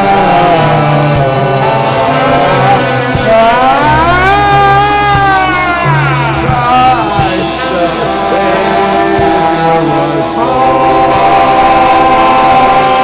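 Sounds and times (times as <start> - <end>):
bass line: 0.0 - 13.0
guitar: 0.0 - 13.0
person singing long notes: 0.0 - 13.0.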